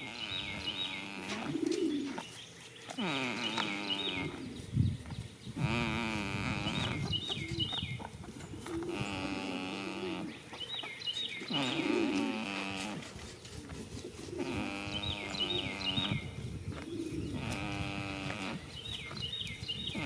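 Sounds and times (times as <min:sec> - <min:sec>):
goat snoring: 0:00.0 - 0:02.3, 0:02.9 - 0:04.7, 0:05.5 - 0:10.6, 0:11.4 - 0:20.0.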